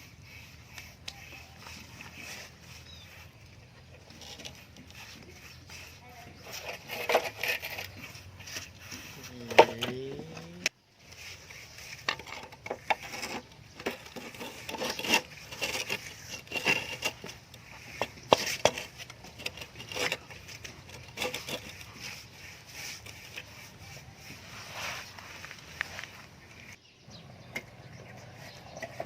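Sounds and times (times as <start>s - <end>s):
hand tools tapping and scraping: 0.0s - 29.0s.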